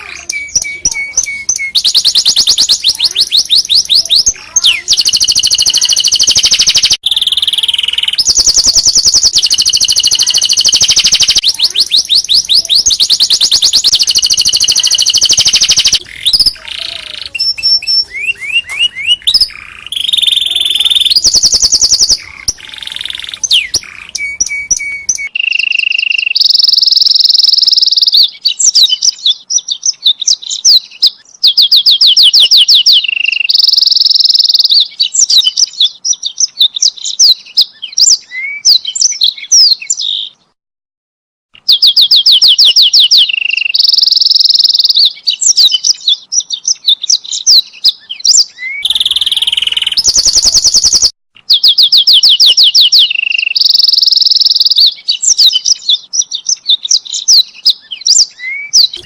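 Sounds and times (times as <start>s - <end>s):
canary singing: 0.0s - 40.5s, 41.6s - 59.0s.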